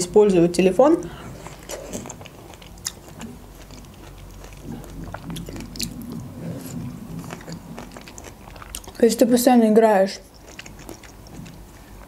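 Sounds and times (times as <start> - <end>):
biting and chewing pineapple: 1.1 - 9.3, 10.2 - 12.0.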